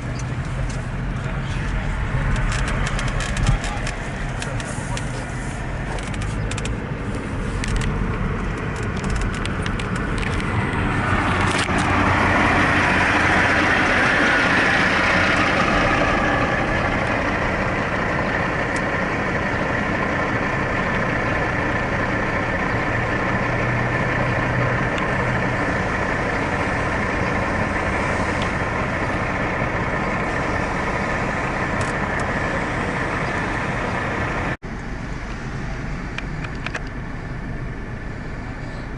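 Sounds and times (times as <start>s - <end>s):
traffic noise: 0.0s - 38.9s.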